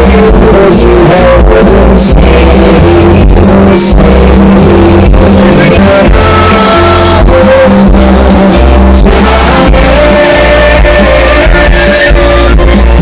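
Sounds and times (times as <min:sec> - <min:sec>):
live rock band playing: 0:00.0 - 0:13.0
person singing: 0:00.0 - 0:13.0.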